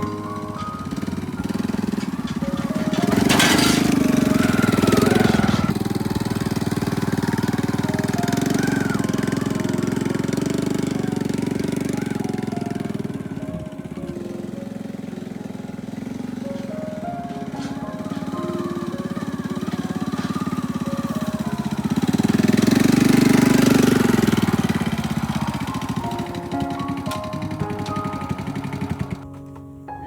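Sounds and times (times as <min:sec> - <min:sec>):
background music melody: 0:00.0 - 0:30.0.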